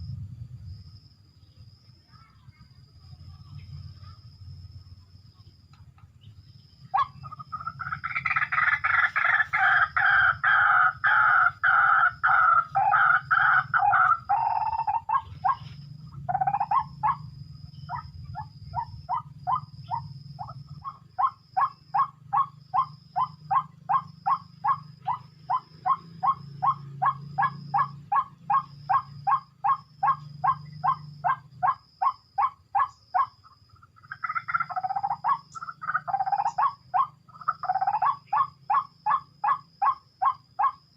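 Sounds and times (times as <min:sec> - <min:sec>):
bird croaking: 0:03.2 - 0:40.9
bird harsh repeated calls: 0:06.2 - 0:40.9.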